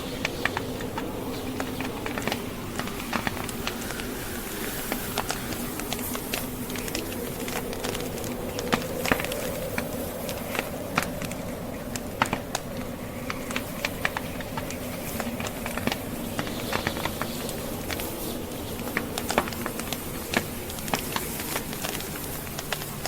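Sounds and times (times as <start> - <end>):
log fire crackling: 0.0 - 23.0
rushing wind: 0.0 - 23.0.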